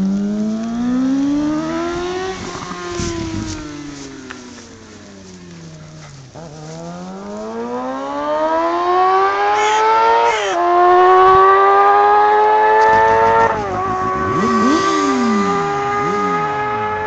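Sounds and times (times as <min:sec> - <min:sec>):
motorcycle accelerating hard: 0:00.0 - 0:17.0.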